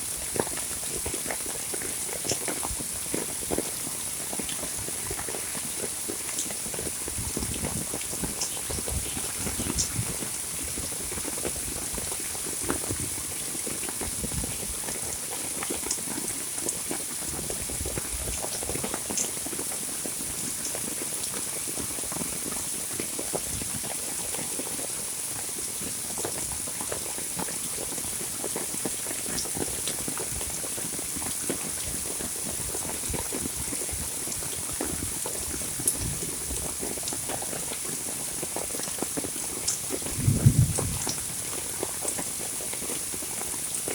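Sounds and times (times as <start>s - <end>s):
heavy rain falling: 0.0s - 43.9s
loud rain splashes: 0.0s - 43.9s.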